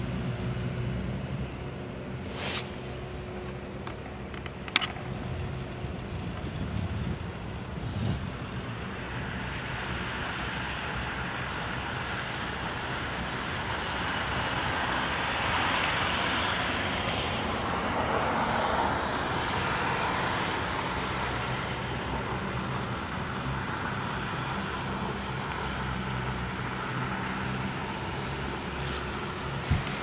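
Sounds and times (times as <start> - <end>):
turboprop plane taking off: 0.0 - 30.0.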